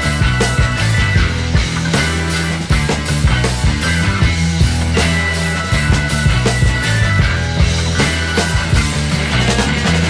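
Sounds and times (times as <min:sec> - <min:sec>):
rock music: 0:00.0 - 0:10.0.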